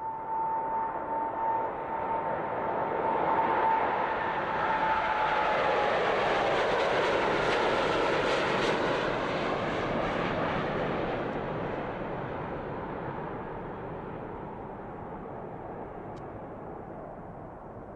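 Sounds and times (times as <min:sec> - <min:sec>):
jet engine whine: 0:00.0 - 0:17.9.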